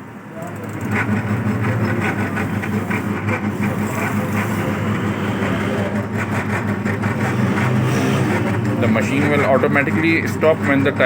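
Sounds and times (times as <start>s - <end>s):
dough kneader motor humming: 0.0s - 11.0s
fast regular rattle: 0.5s - 11.0s.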